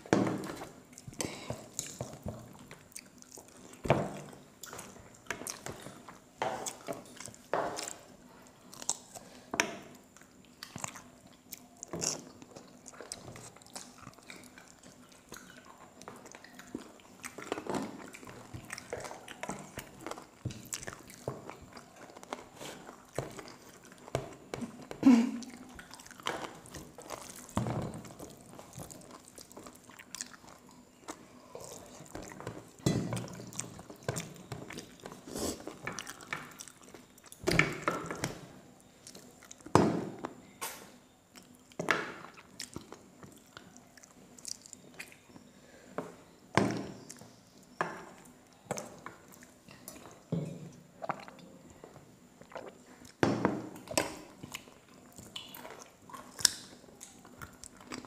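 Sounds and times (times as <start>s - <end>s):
close chewing and mouth smacks: 0.4s - 45.5s, 46.7s - 58.0s.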